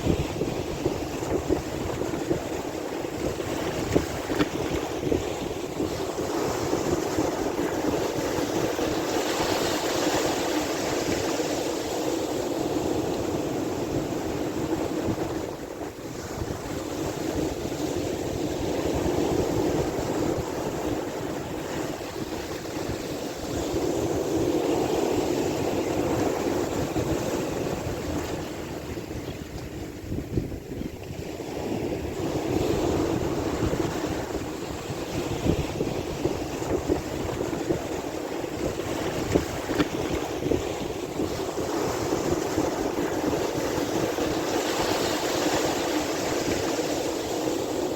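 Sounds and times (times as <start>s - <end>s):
sea waves washing in: 0.0s - 47.9s
wind buffeting microphone: 0.0s - 47.9s.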